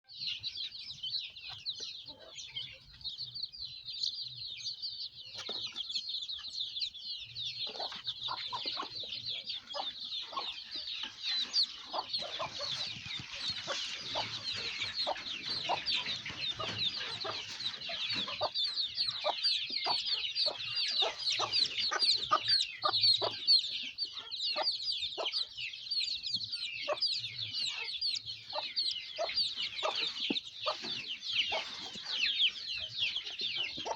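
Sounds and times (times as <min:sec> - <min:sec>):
baby chicks peeping: 0:00.0 - 0:33.9.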